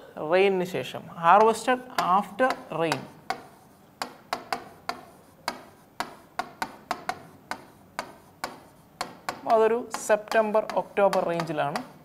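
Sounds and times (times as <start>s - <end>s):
marker tapping on whiteboard: 1.3s - 12.0s.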